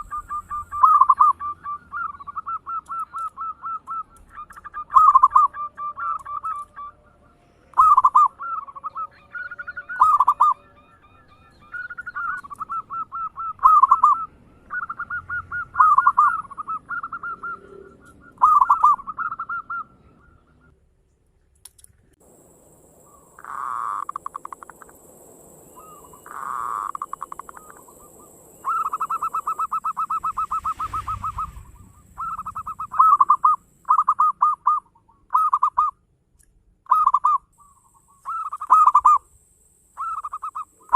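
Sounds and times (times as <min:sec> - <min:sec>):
dove cooing: 0:00.0 - 0:20.7, 0:23.0 - 0:25.0, 0:25.6 - 0:35.9, 0:36.9 - 0:39.2, 0:40.0 - 0:40.9.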